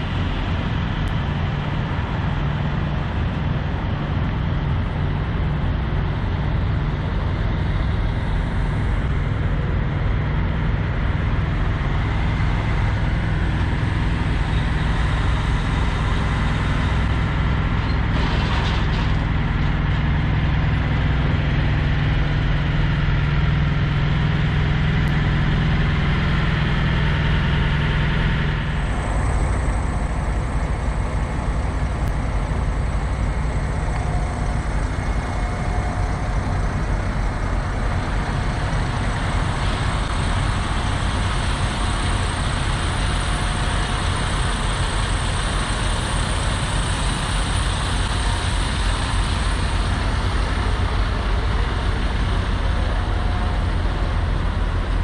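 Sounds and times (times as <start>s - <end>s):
truck diesel engines idling: 0.0s - 55.0s.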